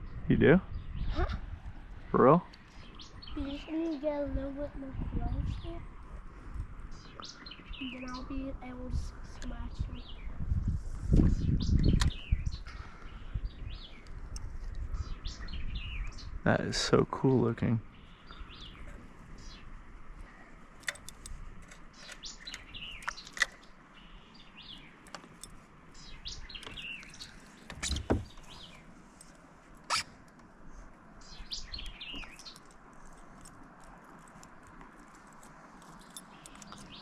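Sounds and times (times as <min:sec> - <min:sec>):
birds chirping and singing: 0:00.0 - 0:29.0, 0:31.2 - 0:37.0.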